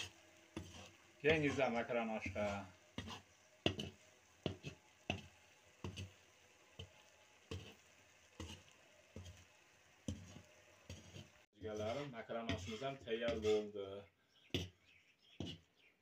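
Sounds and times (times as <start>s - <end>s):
metal skimmer scraping a cast-iron pot: 0.0s - 15.6s.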